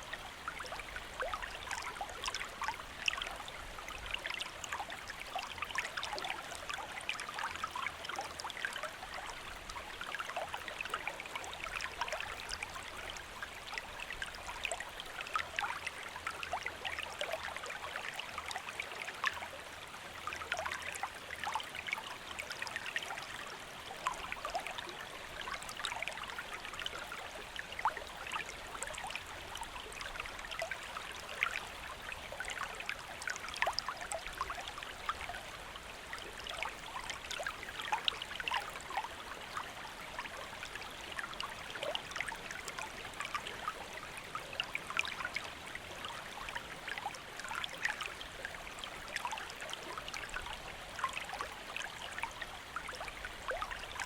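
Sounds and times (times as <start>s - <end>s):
small stream babbling: 0.0s - 54.0s.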